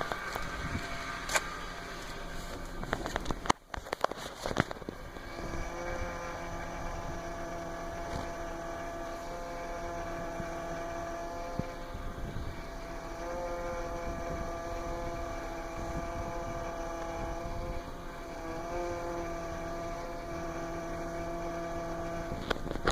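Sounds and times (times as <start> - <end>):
car engine low rumble: 0.0 - 22.9
power steering pump whine: 0.0 - 22.9.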